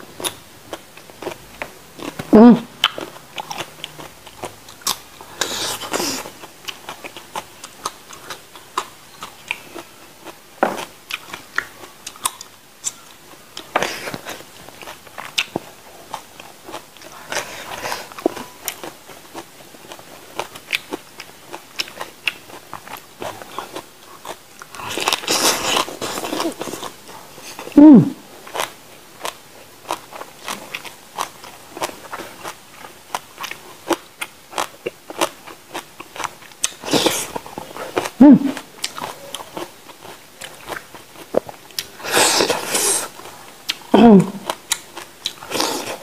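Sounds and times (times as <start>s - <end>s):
chewing raw vegetables: 0.0s - 46.0s.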